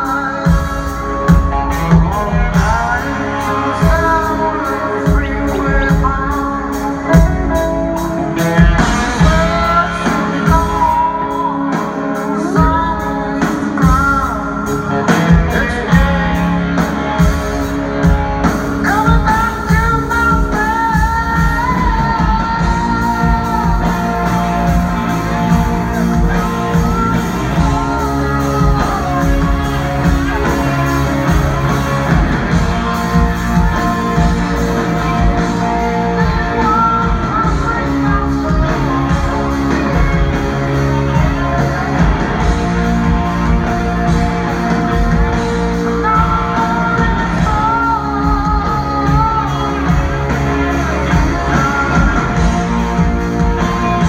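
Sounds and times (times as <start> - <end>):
person singing: 0.0 - 54.0
rock band playing live: 0.0 - 54.0.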